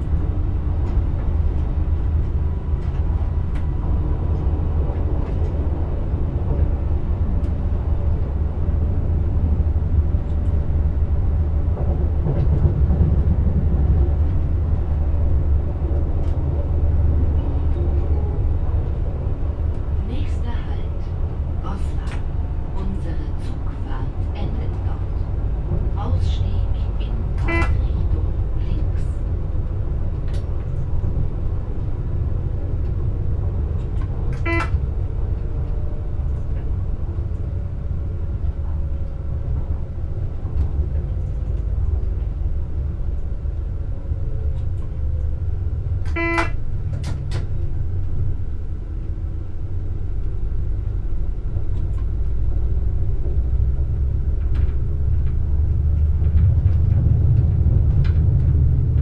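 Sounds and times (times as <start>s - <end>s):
diesel engine rumble: 0.0s - 59.0s
wheels on rail: 0.0s - 59.0s.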